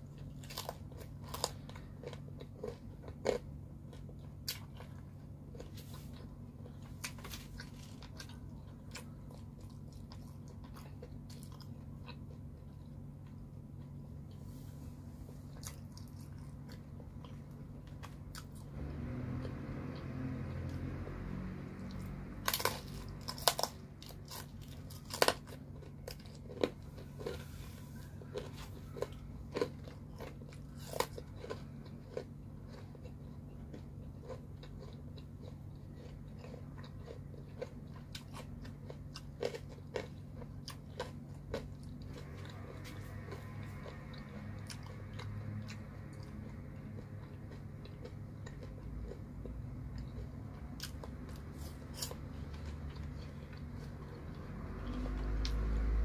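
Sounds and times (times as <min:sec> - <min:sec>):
crunchy pizza chewing: 0:00.0 - 0:56.0.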